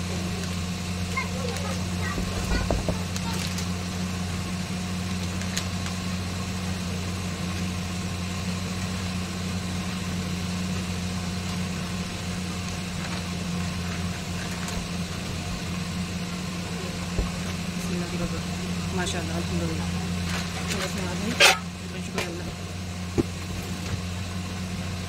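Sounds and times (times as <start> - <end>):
appliance motor hum: 0.0 - 25.0.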